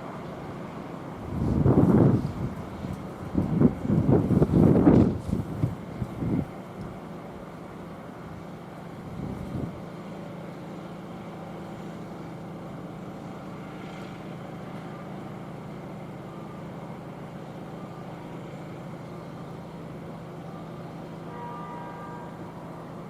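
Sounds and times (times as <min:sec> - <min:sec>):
train mechanical hum: 0:00.0 - 0:23.0.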